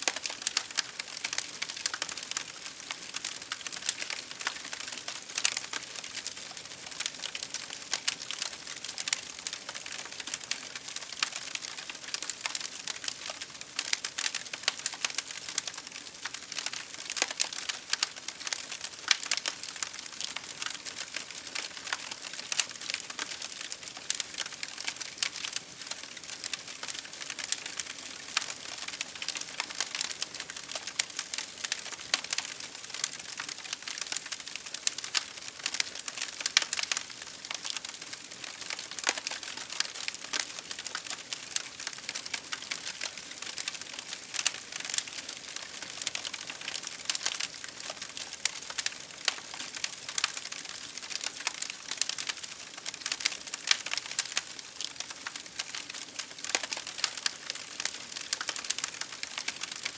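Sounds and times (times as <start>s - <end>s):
fire crackling: 0.0s - 7.0s, 8.0s - 22.3s, 23.0s - 59.0s.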